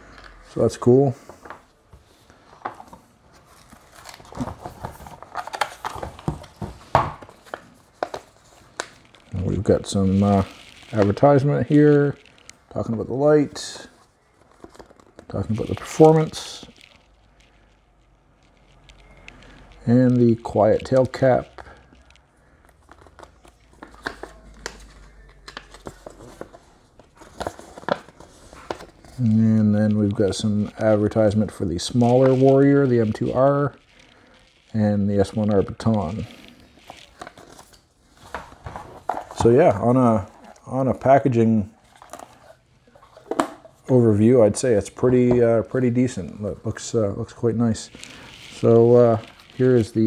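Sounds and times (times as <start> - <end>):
box packaging rustling: 2.3 - 17.1, 18.8 - 50.0.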